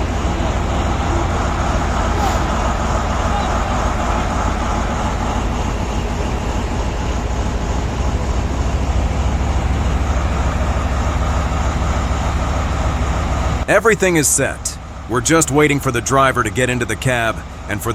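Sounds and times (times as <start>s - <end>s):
heavy diesel machinery rumbling: 0.0s - 17.9s.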